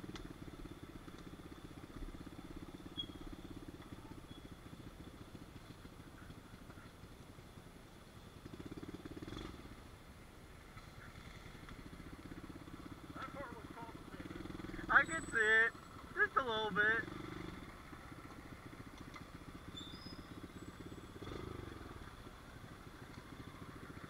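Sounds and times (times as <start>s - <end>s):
small motorbike engine running: 0.0s - 9.9s, 10.6s - 24.0s.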